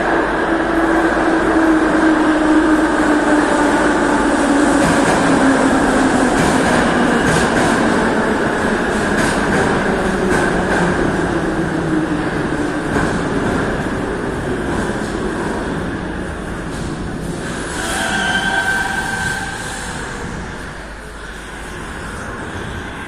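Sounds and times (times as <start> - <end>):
train rumble: 0.0 - 23.0
train running whine: 0.0 - 23.0.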